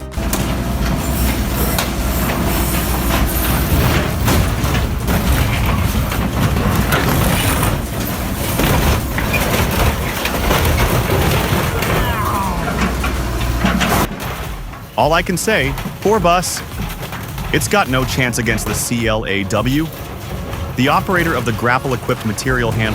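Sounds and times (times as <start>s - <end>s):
diesel engine rumble: 0.0s - 22.9s
metal crunching and banging: 0.0s - 22.9s.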